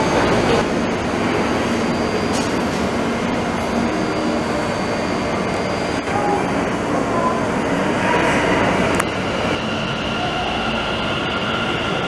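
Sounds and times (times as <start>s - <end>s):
faint high whine: 0.0s - 12.0s
train humming at platform: 0.0s - 12.0s.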